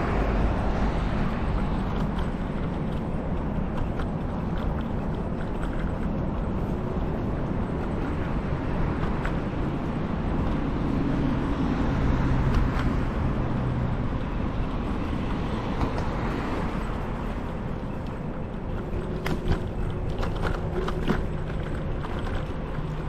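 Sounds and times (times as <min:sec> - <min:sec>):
road noise: 0:00.0 - 0:23.0
scooter engine rumble: 0:00.0 - 0:23.0
wind: 0:00.0 - 0:23.0.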